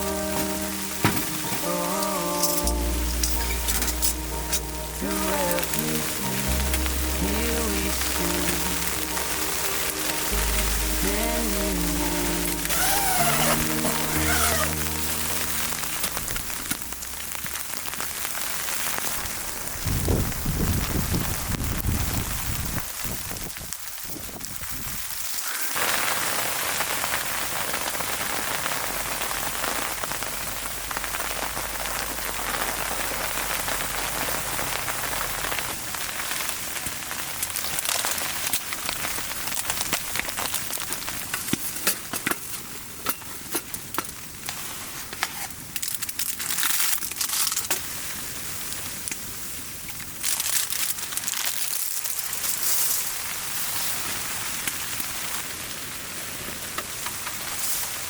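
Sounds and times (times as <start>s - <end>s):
sharp crackles and ticks: 0.0s - 55.9s
rain pattering: 0.0s - 58.0s.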